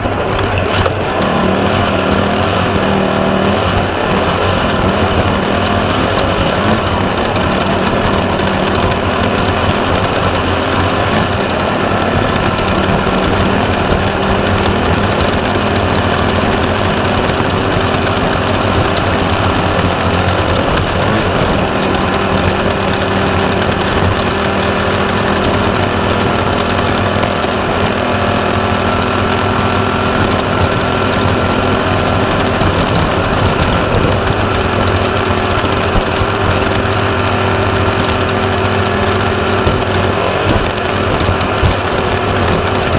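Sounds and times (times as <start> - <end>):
buggy engine running hard: 0.0 - 42.9
car rattling: 0.0 - 42.9.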